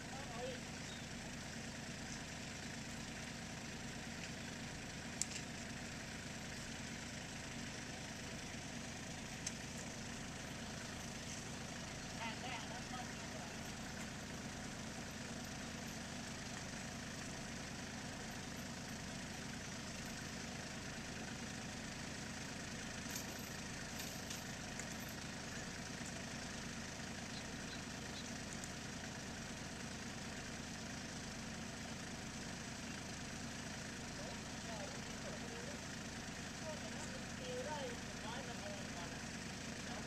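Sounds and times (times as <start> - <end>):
tractor engine idling: 0.0 - 40.0.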